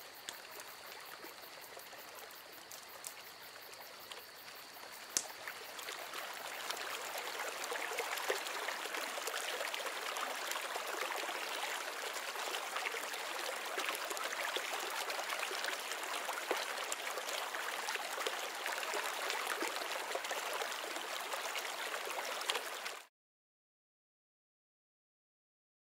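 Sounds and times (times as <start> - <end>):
stream babbling: 0.0 - 23.1.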